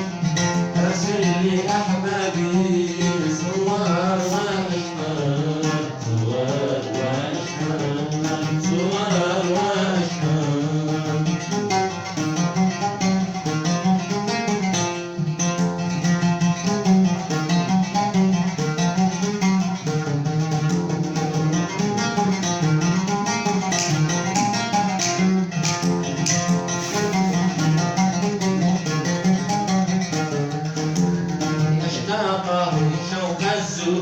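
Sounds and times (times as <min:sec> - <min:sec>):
plucked string instrumental music: 0:00.0 - 0:34.0.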